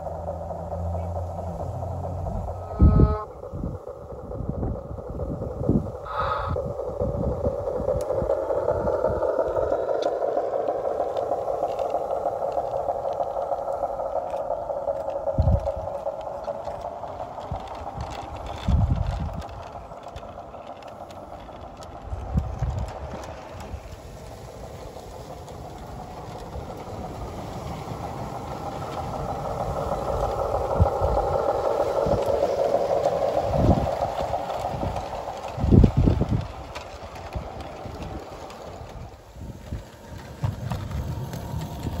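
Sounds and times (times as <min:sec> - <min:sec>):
model locomotive motor and wheels hum: 0:00.0 - 0:42.0.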